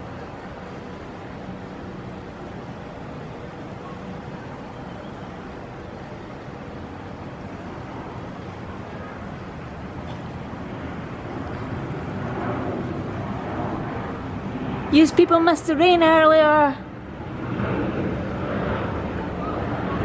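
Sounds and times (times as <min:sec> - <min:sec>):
jet airliner flying over: 0:00.0 - 0:20.0.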